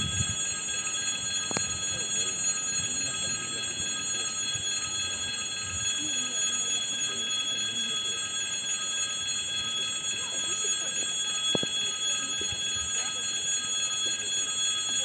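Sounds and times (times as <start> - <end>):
railway crossing warning bell: 0.0 - 15.0.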